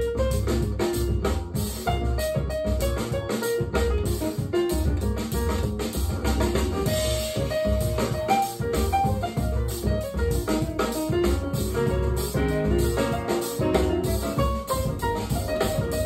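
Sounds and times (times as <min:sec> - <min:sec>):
music with drum beat over speakers: 0:00.0 - 0:16.0.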